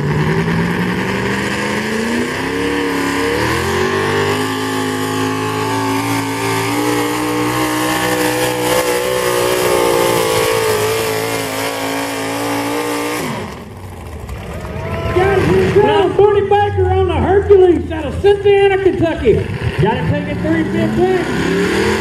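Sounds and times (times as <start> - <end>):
engine revving at full throttle: 0.0 - 13.8, 14.9 - 22.0.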